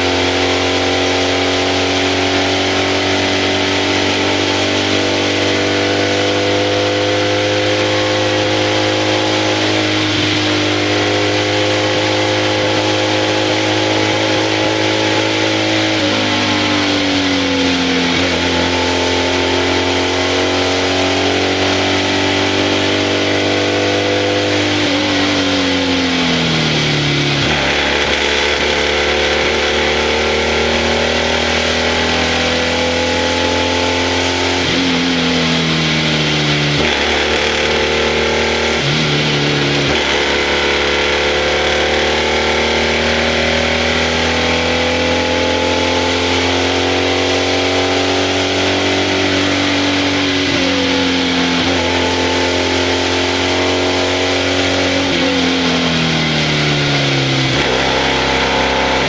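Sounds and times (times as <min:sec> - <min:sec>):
racing engine revving: 0:00.0 - 0:59.0.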